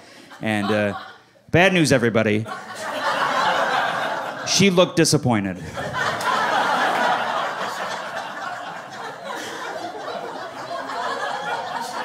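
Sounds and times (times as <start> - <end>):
audience laughing: 0.0 - 1.2, 2.4 - 4.9, 5.6 - 12.0.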